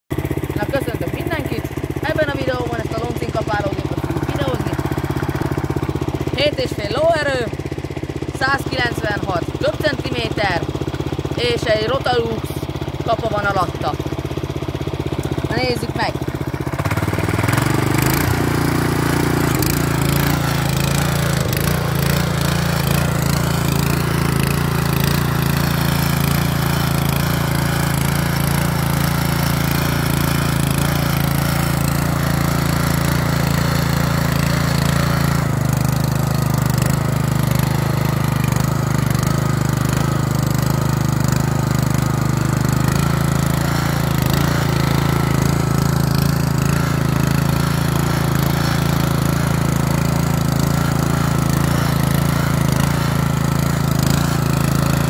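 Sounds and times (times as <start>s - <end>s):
tiller engine running: 0.1s - 55.0s
tines churning soil: 0.1s - 55.0s.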